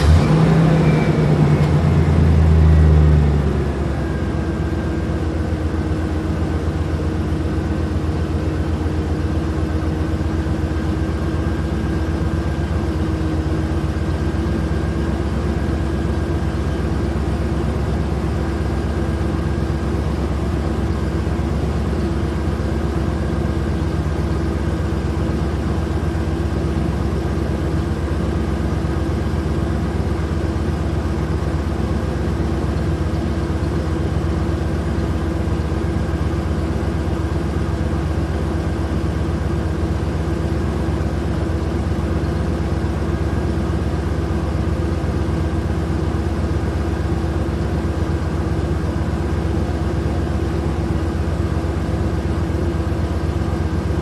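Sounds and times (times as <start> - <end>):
steady engine-like hum: 0.0 - 54.0.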